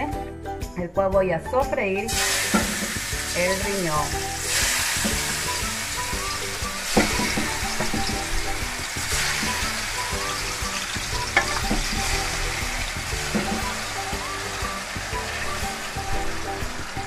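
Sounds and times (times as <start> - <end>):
meat sizzling in hot oil: 2.1 - 17.0.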